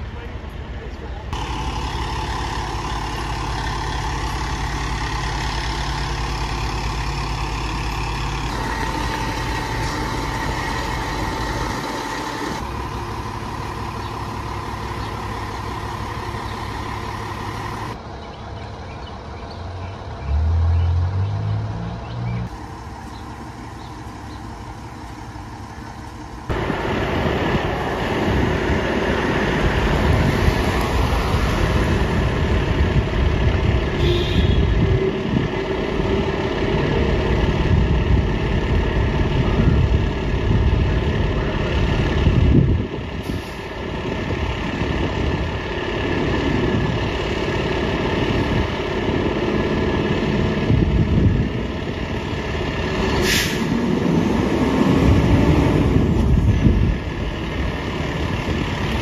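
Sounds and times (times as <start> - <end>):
diesel engines idling: 0.0 - 59.0.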